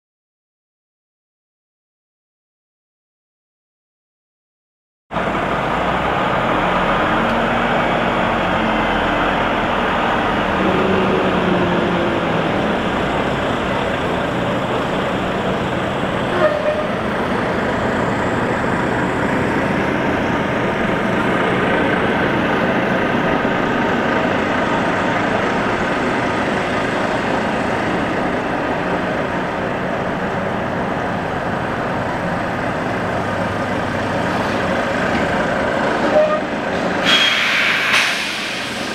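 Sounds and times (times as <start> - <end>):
vehicle engine running: 5.2 - 37.0.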